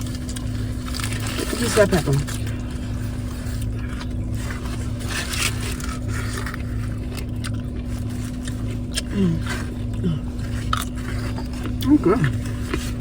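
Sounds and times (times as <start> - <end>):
food wrappers rustling: 0.0 - 13.0
steady low hum: 0.0 - 13.0.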